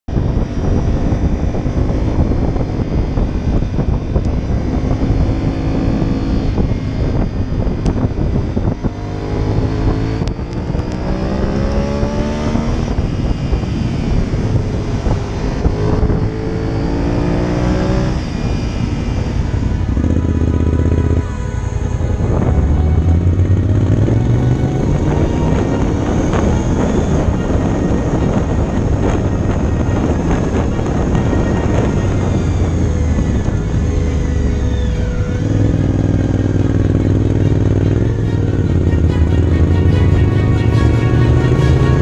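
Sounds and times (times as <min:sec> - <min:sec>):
motorcycle engine accelerating: 0:00.0 - 0:42.0
wind buffeting microphone: 0:00.1 - 0:42.0.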